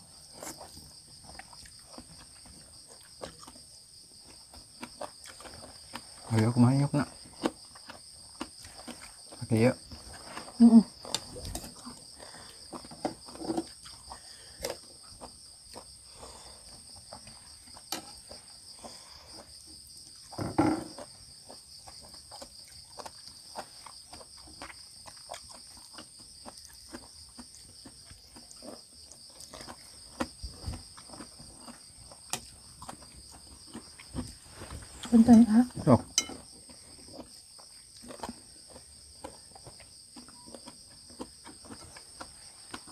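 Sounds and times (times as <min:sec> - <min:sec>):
crickets chirring: 0:00.0 - 0:42.9.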